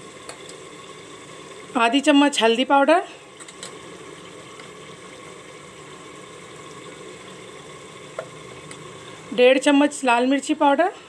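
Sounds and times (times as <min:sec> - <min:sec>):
masala sizzling and bubbling in oil: 0:00.0 - 0:11.0.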